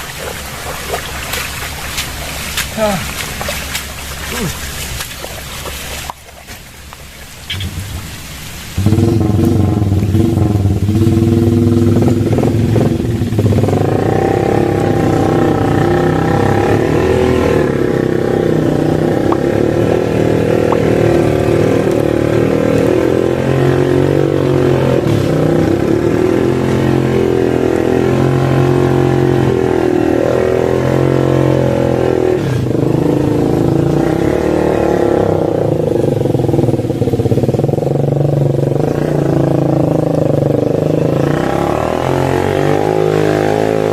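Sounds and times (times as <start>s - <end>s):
motorcycle engine revving: 7.5s - 43.9s.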